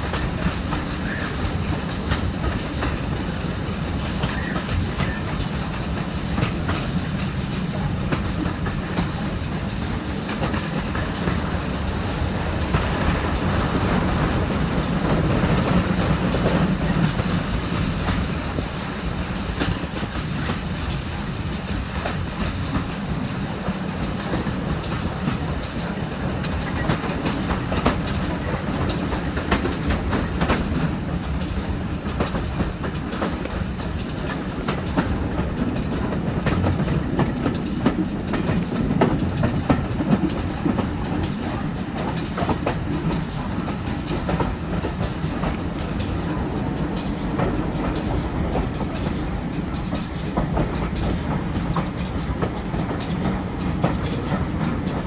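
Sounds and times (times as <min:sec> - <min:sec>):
train carriage running noise: 0:00.0 - 0:55.0
train wheels clattering over rail joints: 0:00.0 - 0:55.0.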